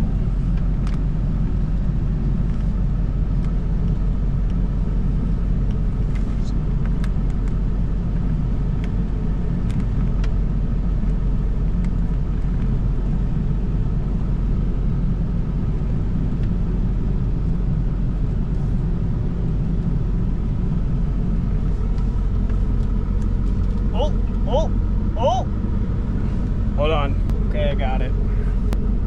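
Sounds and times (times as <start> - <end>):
truck engine rumbling: 0.0 - 29.0.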